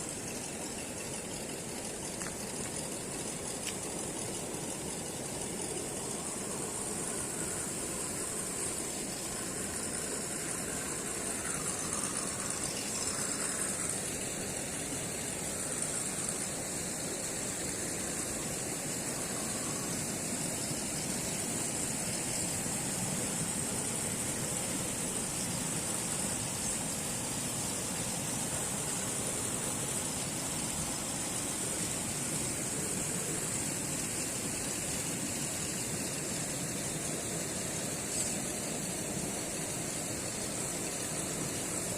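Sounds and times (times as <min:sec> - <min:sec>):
toy car electric motor running: 0:00.0 - 0:39.3
high hiss: 0:00.0 - 0:41.9.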